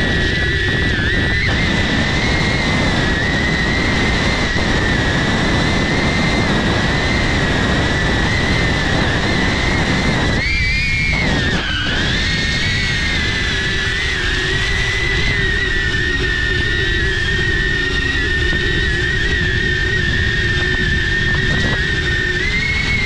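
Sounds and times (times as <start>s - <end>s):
drone propellers whining: 0.0s - 23.0s
wind noise on microphone: 0.0s - 23.0s.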